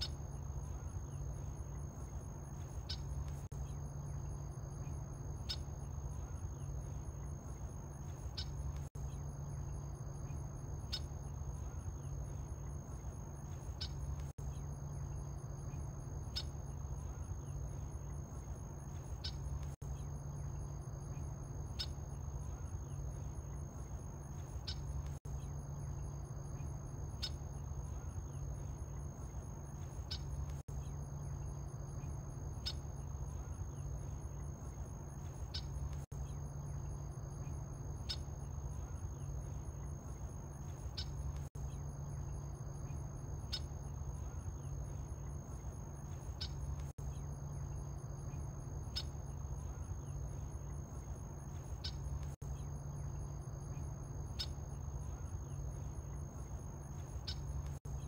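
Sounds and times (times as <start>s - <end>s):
high insect trill: 0.0s - 58.0s
low steady hum: 0.0s - 58.0s.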